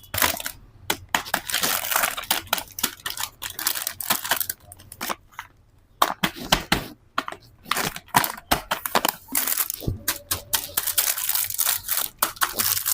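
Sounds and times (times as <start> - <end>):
plastic crackling and clicking: 0.1 - 6.2, 7.2 - 12.9.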